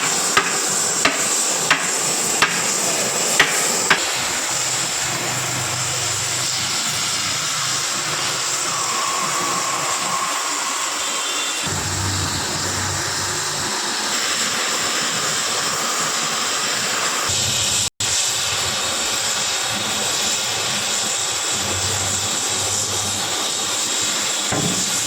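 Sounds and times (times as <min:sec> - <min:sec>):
cutting torch hissing: 0:00.0 - 0:25.0.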